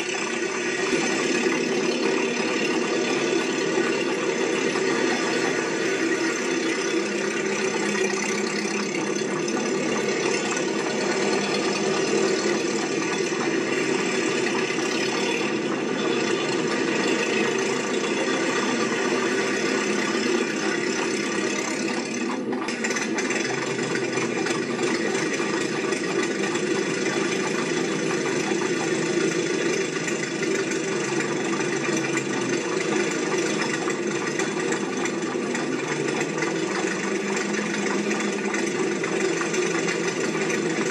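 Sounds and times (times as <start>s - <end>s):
small motor running with rattle: 0.0s - 40.9s.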